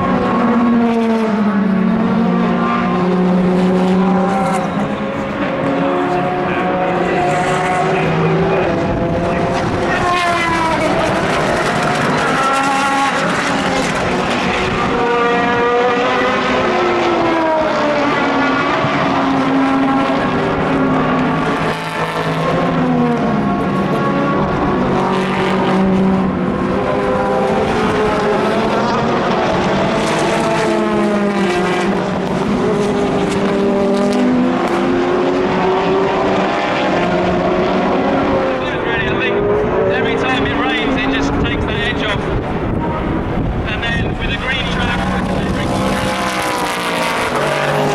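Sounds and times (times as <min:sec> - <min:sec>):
race cars passing at speed: 0:00.0 - 0:47.9.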